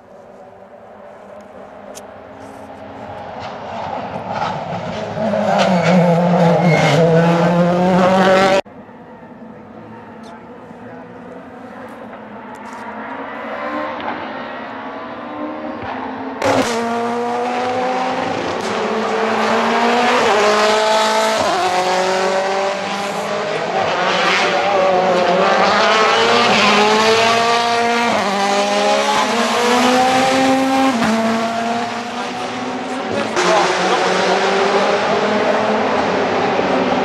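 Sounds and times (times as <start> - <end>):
rally car engine revving: 3.2 - 8.6, 11.0 - 37.0.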